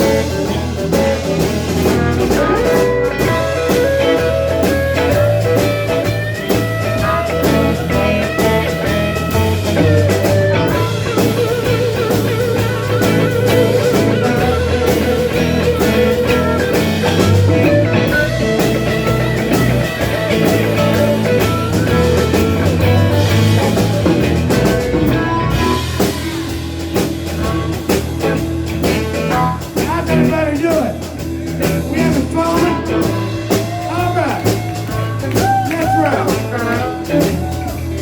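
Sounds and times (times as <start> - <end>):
electric guitar lead: 0.0 - 38.0
live blues-rock band: 0.0 - 38.0.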